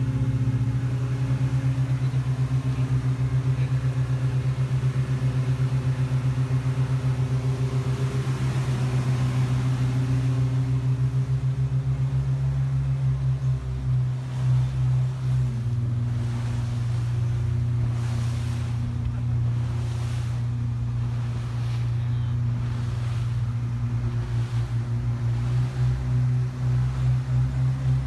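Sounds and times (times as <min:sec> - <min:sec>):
jet boat engine drone: 0:00.0 - 0:28.0
water and wind wash: 0:00.0 - 0:28.0.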